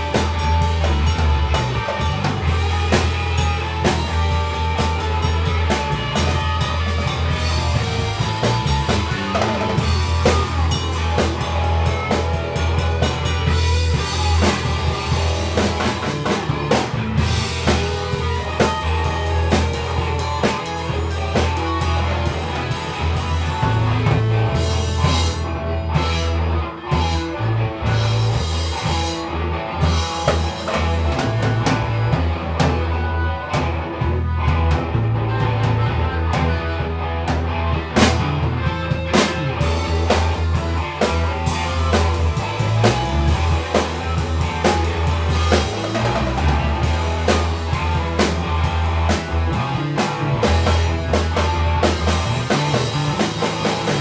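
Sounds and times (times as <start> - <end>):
drum kit with cymbal crashes: 0.0 - 27.2, 29.8 - 33.0, 38.0 - 54.0
electric guitars: 0.0 - 54.0.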